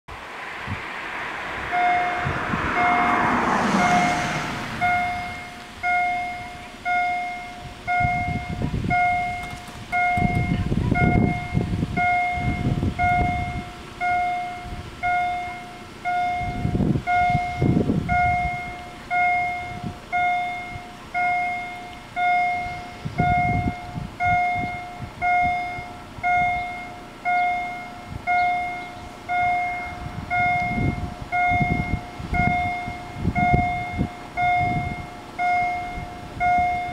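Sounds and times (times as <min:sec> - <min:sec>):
low rumbles: 0:00.1 - 0:36.9
level crossing bells ringing: 0:01.8 - 0:36.9.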